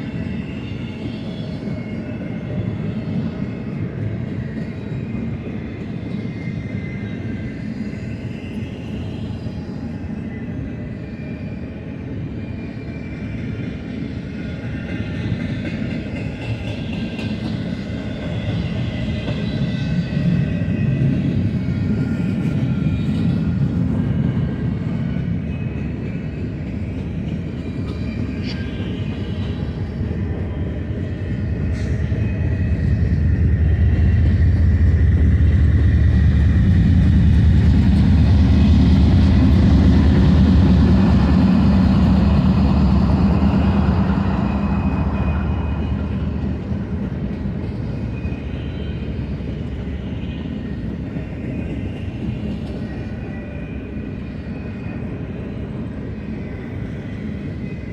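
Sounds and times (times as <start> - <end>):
freight train wheels on rail: 0.0 - 57.9.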